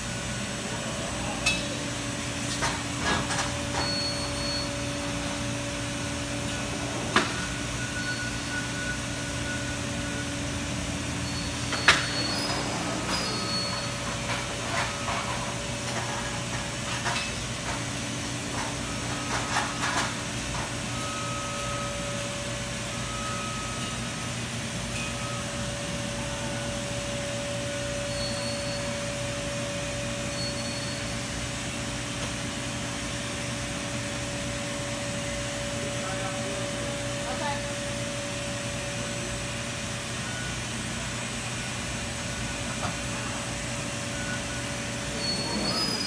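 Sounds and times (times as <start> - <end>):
machine hum with constant tone: 0.0 - 46.0.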